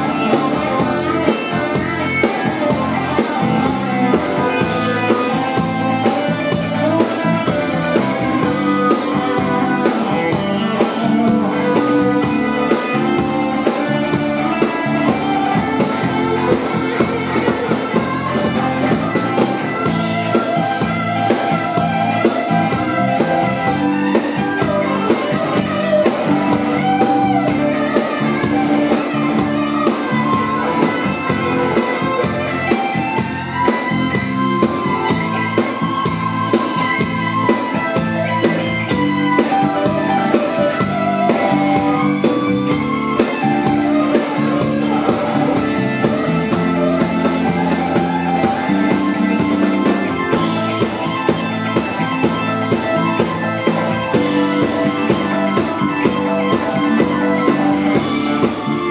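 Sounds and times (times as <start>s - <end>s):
blues-rock band playing live: 0.0s - 58.9s
electric guitar bending notes: 0.0s - 58.9s.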